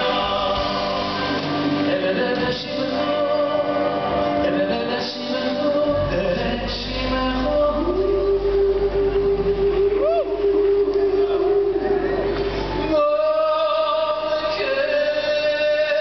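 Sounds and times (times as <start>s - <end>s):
two men singing a duet: 0.0s - 12.2s, 12.9s - 16.0s
live band playing: 0.0s - 13.4s.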